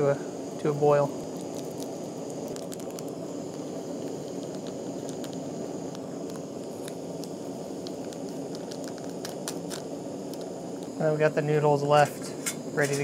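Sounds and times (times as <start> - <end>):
gas stove burner roaring: 0.0 - 13.0.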